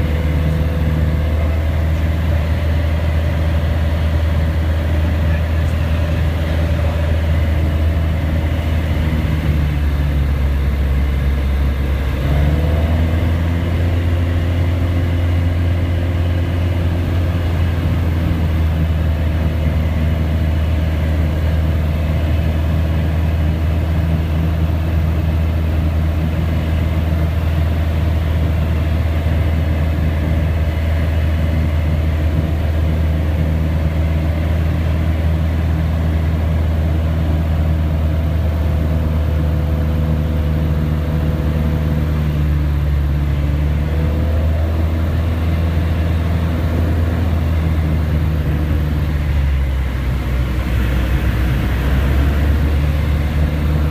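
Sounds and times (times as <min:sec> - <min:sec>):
propeller plane engine running: 0:00.0 - 0:53.9.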